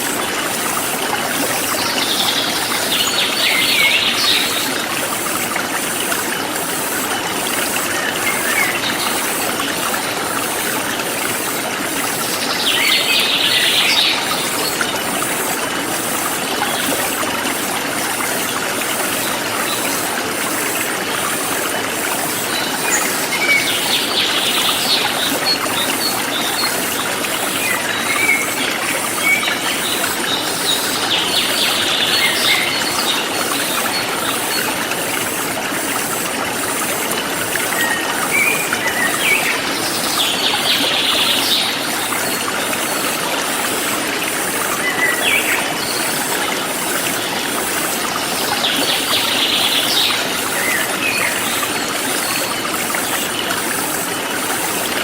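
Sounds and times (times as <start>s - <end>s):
forest stream flowing: 0.0s - 55.0s
insects pulsing: 0.0s - 55.0s.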